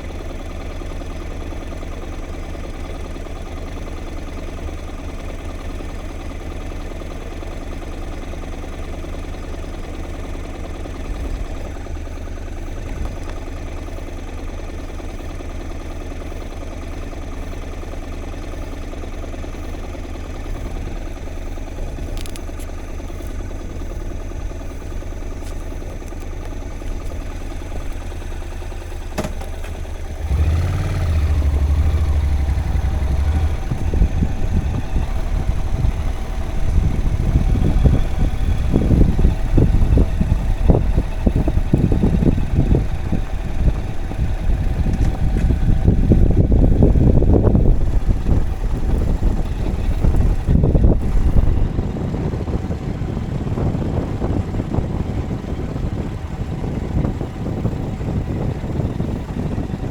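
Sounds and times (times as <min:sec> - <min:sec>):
vehicle engine rumble: 0:00.0 - 0:59.9.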